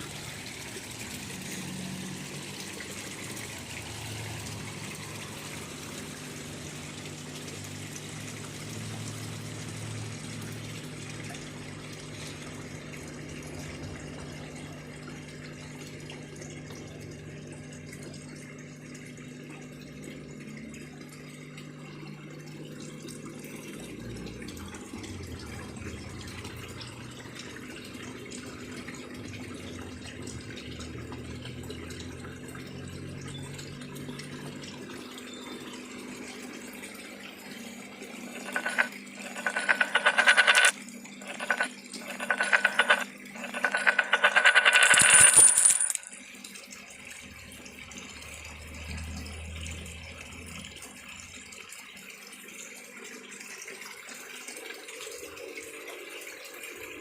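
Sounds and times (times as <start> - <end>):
water pump humming: 0.0 - 57.0.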